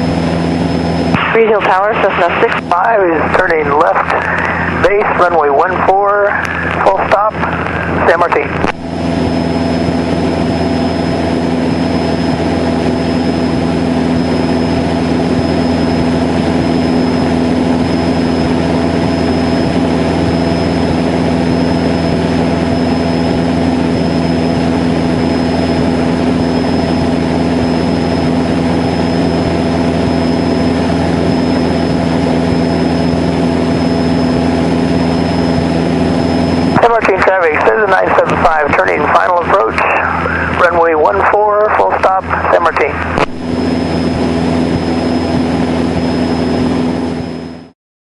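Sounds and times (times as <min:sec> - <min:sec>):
light aircraft engine and propeller: 0:00.0 - 0:47.8.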